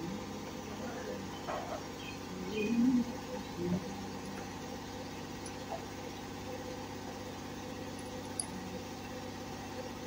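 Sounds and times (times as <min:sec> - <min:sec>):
engine hum: 0:00.0 - 0:10.0.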